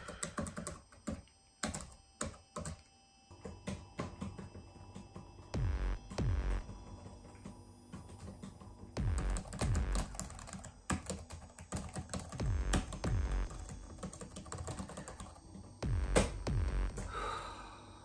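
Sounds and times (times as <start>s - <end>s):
laptop keyboard typing: 0.0s - 16.4s.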